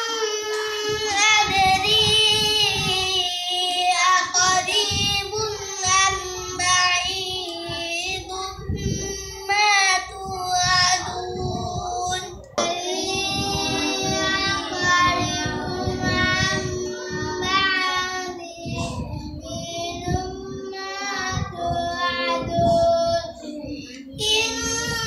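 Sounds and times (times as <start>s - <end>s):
high voice chanting recitation: 0.0s - 25.0s.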